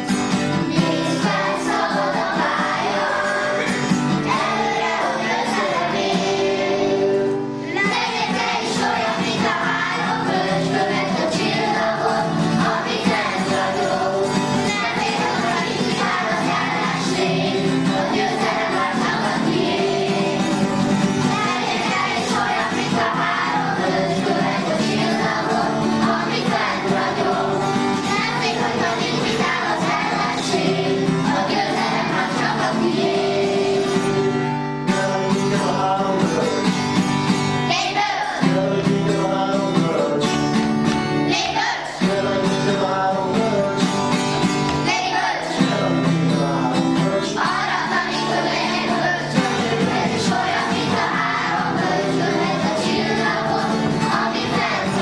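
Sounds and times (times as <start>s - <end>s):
children singing: 0.0s - 34.4s, 37.7s - 40.2s, 41.2s - 43.8s, 44.8s - 55.0s.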